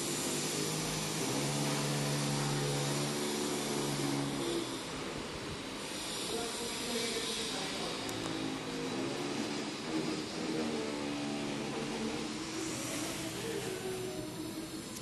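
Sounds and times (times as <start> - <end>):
mechanical drone with hiss: 0.0 - 15.0.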